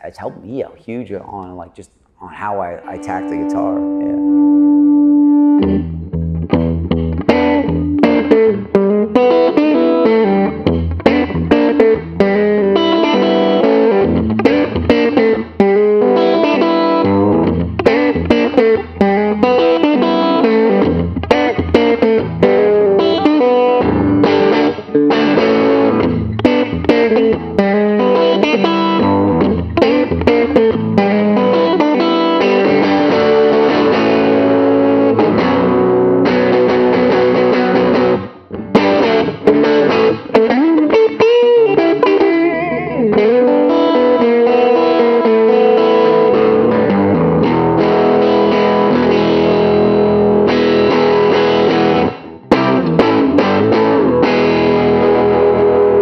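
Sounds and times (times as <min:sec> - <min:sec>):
overdriven electric guitar blues riff: 0:02.1 - 0:56.0.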